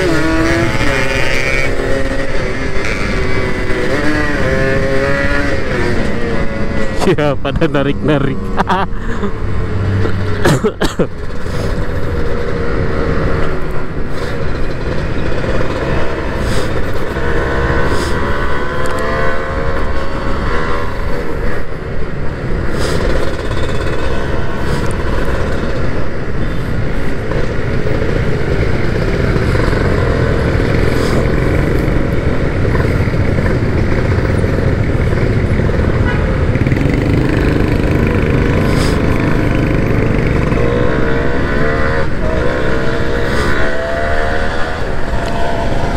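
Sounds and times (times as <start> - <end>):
motorcycle engine revving: 0.0 - 8.8, 11.2 - 45.9
wind and road rush: 0.0 - 45.9.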